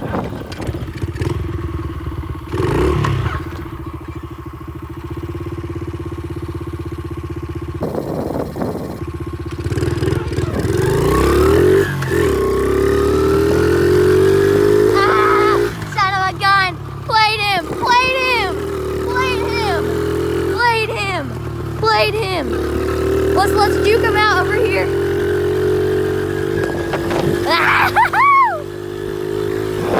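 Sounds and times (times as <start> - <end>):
small motorbike engine revving: 0.0 - 29.9.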